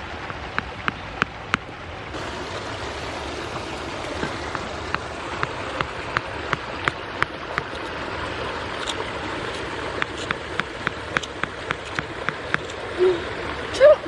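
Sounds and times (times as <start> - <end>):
running water splashing: 0.0 - 14.0
sharp water drips: 0.0 - 14.0.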